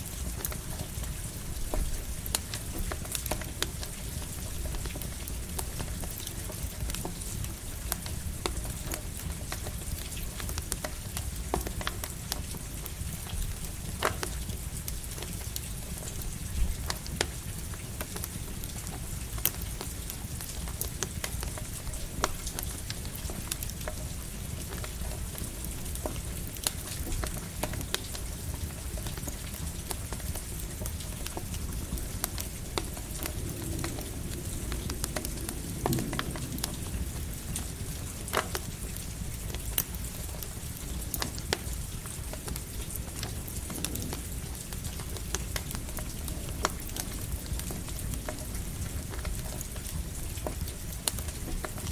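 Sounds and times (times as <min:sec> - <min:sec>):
campfire crackling and popping: 0:00.0 - 0:51.9
light rain pattering: 0:00.0 - 0:51.9.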